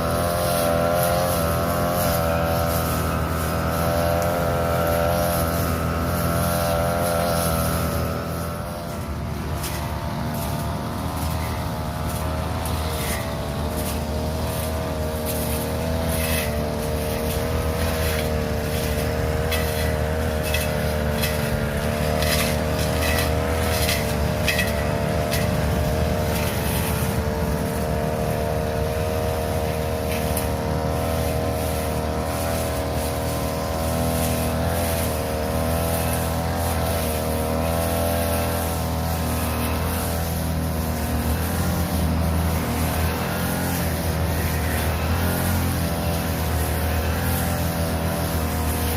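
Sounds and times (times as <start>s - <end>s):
grass cutter engine running: 0.0s - 48.9s
sharp ticks cutting grass: 0.0s - 48.9s.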